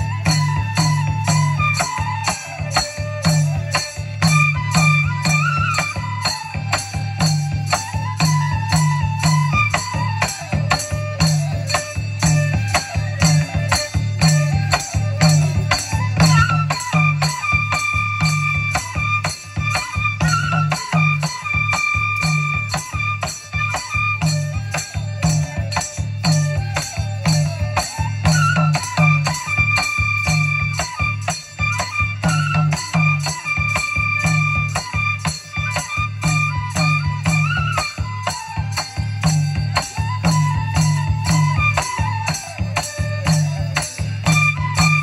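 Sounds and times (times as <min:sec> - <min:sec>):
drums beating low rhythm: 0:00.0 - 0:45.0
high melody instrument: 0:00.0 - 0:45.0
rattling percussion: 0:00.0 - 0:45.0.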